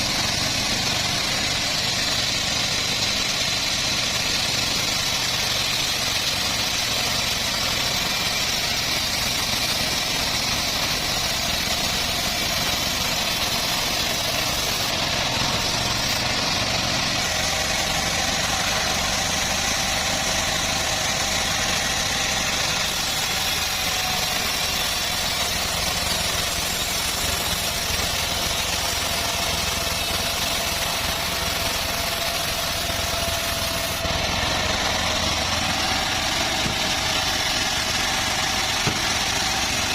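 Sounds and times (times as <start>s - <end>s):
bandsaw sawmill engine drone: 0.0s - 39.9s.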